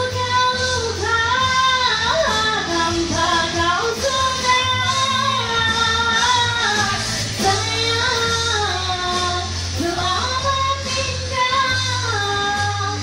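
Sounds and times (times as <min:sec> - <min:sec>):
backing music: 0:00.0 - 0:13.0
woman singing into microphone: 0:00.0 - 0:13.0.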